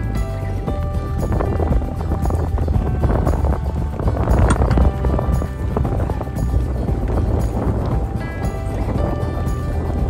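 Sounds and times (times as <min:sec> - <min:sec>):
background music: 0:00.0 - 0:10.0
wind rumble on microphone: 0:00.0 - 0:10.0.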